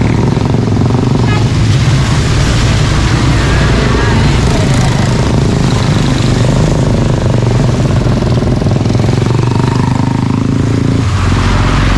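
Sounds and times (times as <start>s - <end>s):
motorcycle engine running: 0.0s - 1.5s, 3.0s - 11.9s.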